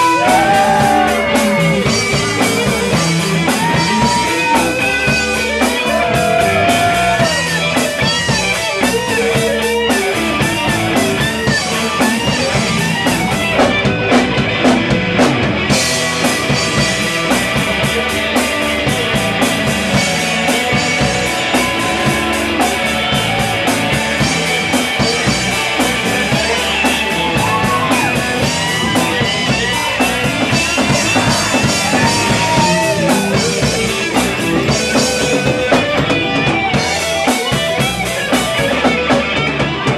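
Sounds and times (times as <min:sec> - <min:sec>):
electric guitar solo: 0:00.0 - 0:39.9
live rock band playing: 0:00.0 - 0:39.9.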